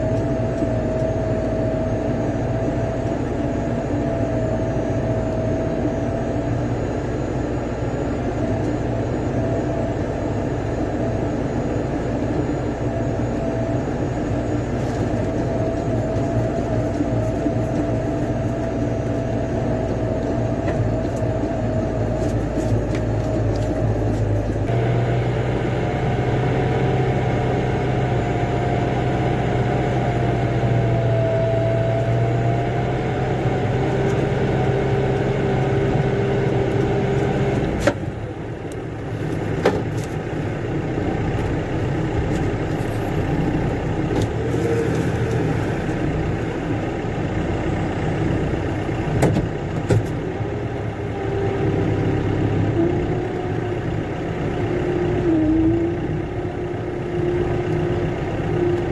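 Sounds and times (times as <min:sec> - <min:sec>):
vehicle engine droning: 0:00.0 - 0:58.9.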